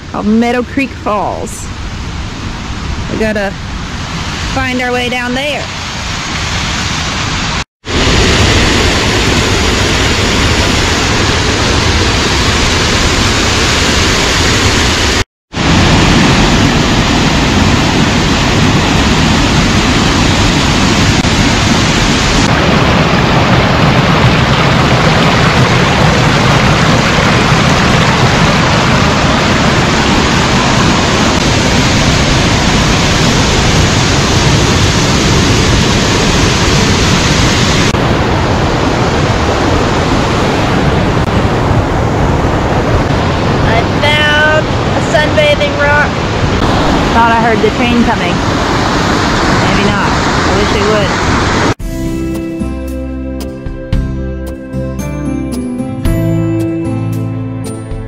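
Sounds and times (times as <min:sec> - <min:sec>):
waterfall rushing: 0:03.0 - 0:51.8.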